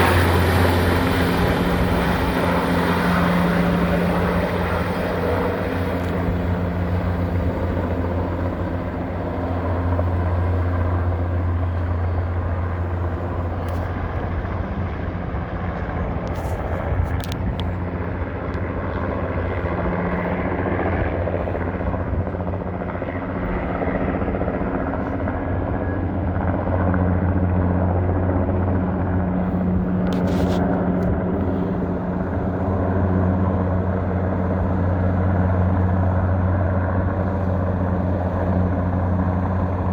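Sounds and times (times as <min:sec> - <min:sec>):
helicopter rotor drone: 0:00.0 - 0:39.9
turbine engine noise: 0:00.0 - 0:39.9.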